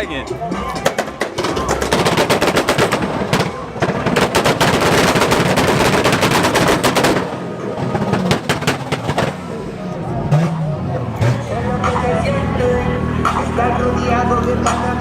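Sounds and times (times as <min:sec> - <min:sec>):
car exhaust popping and crackling: 0:00.1 - 0:15.0.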